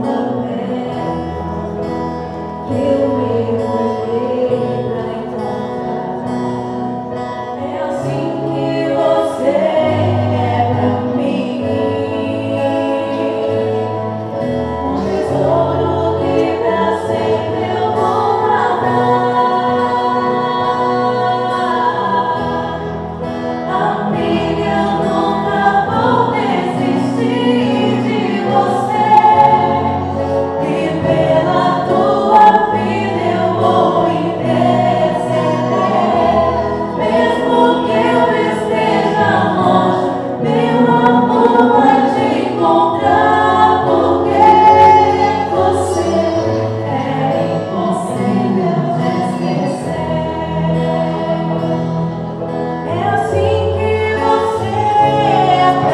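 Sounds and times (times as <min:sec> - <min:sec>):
choir singing gospel song: 0:00.0 - 0:55.9
sustained bass notes: 0:00.0 - 0:55.9.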